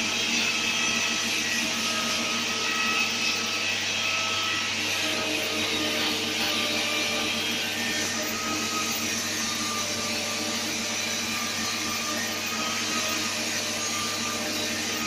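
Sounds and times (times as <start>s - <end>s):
machine whirring: 0.0s - 15.0s.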